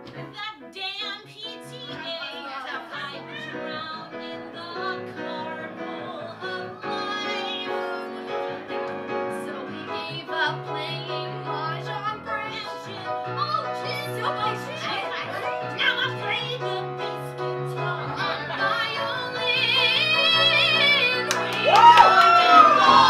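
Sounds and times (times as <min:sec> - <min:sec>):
piano accompaniment: 0:00.0 - 0:23.0
women singing: 0:00.2 - 0:23.0.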